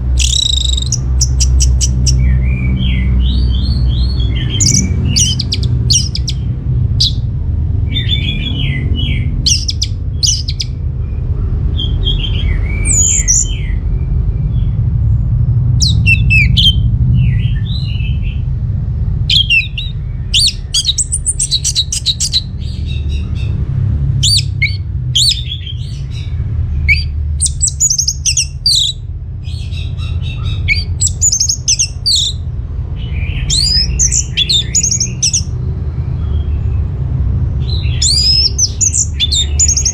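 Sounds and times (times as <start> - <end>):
thrush singing: 0.0 - 10.8, 11.8 - 13.8, 15.8 - 18.5, 19.3 - 36.4, 37.6 - 39.9
steady low rumble: 0.0 - 39.9.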